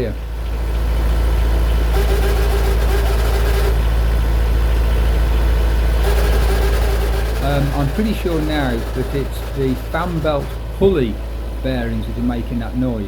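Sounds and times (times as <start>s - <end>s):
boat engine running: 0.0s - 13.0s
mid-pitched mechanical noise: 0.0s - 13.0s.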